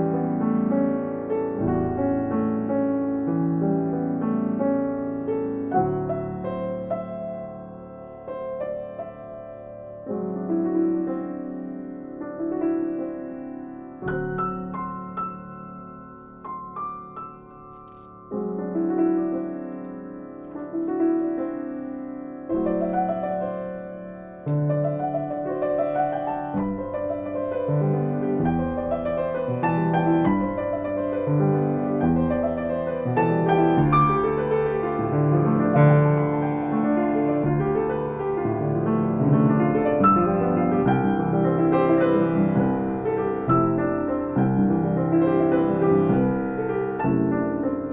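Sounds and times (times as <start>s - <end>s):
slow piano chords: 0.0s - 47.9s.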